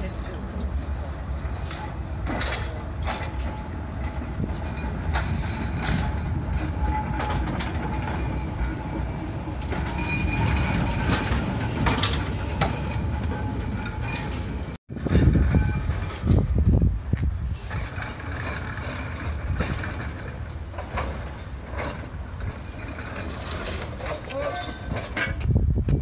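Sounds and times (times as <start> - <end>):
tram wheels rumbling: 0.0 - 26.0.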